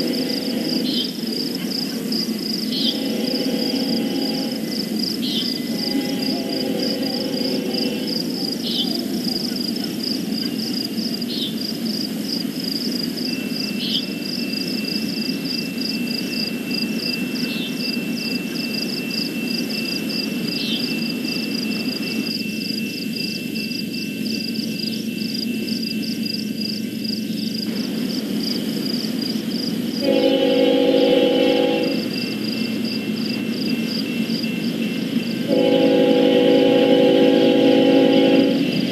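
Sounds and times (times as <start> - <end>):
night insects chirping: 0.0 - 38.9.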